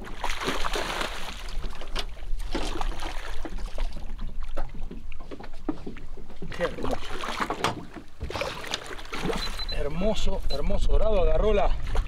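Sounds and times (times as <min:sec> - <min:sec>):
water splashes and knocks: 0:00.0 - 0:09.7, 0:11.5 - 0:12.0.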